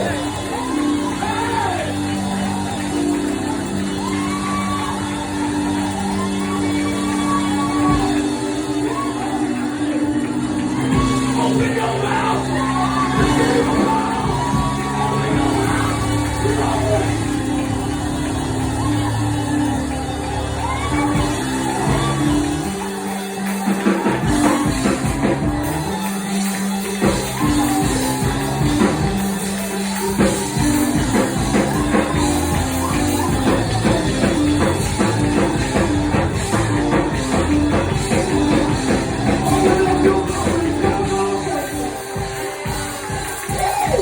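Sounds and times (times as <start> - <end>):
live praise band music: 0.0 - 44.0
voices singing along: 0.0 - 44.0.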